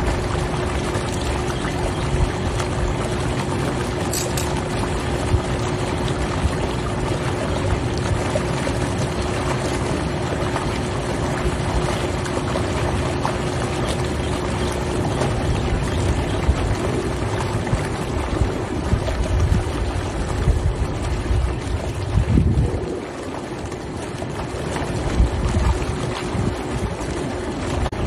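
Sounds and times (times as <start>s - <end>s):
constant hum: 0.0s - 28.0s
hot tub jets bubbling water: 0.0s - 28.0s.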